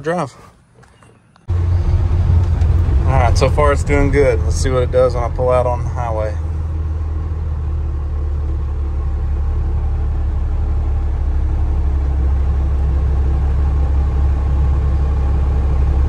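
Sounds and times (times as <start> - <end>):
diesel truck engine droning: 1.4 - 16.0.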